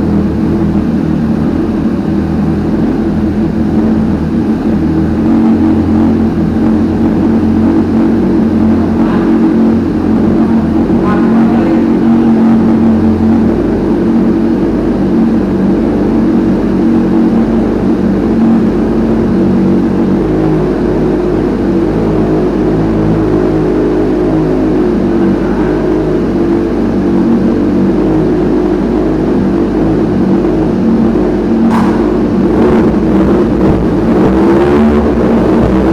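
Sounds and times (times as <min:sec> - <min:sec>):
motorcycle engine running steadily: 0:00.0 - 0:35.9.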